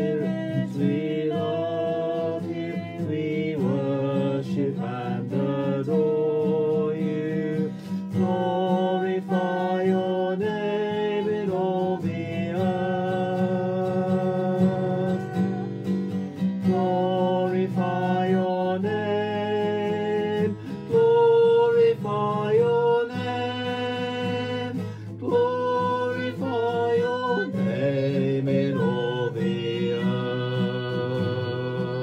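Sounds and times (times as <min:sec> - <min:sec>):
man singing: 0:00.0 - 0:16.0, 0:16.6 - 0:32.0
strummed acoustic guitar: 0:00.0 - 0:32.0.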